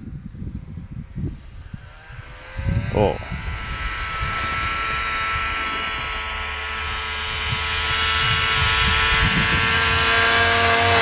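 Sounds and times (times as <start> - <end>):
snowmobile engine running: 0.0 - 11.0
wind rumbling on microphone: 0.0 - 11.0.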